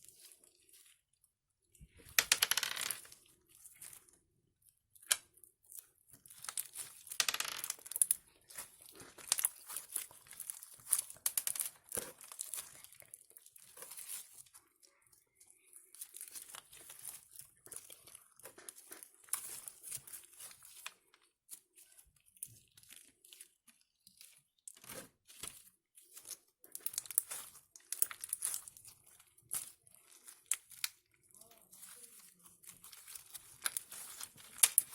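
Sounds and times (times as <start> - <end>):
hands squeezing slime: 0.0 - 1.2, 7.8 - 34.9.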